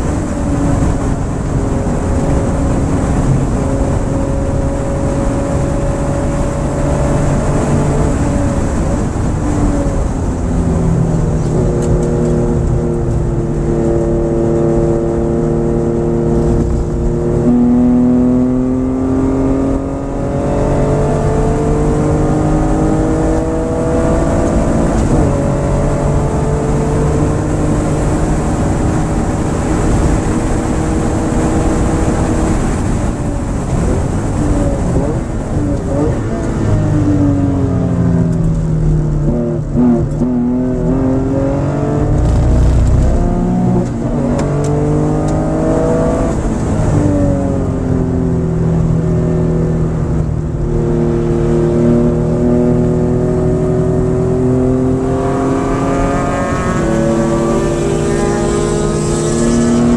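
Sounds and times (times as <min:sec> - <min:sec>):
car engine revving hard: 0:00.0 - 0:38.4, 0:39.1 - 0:59.9.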